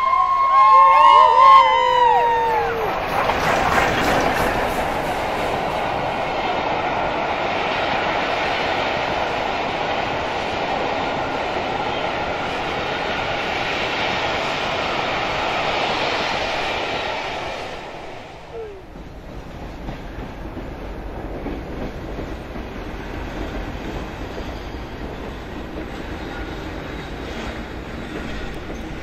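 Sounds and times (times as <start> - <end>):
train wheel and rail noise: 0.0 - 29.0.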